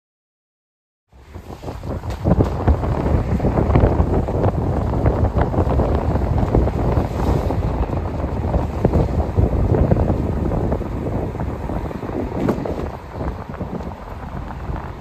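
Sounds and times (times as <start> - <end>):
wind buffeting microphone: 1.1 - 15.0
train wheels rumbling on rail: 1.2 - 15.0.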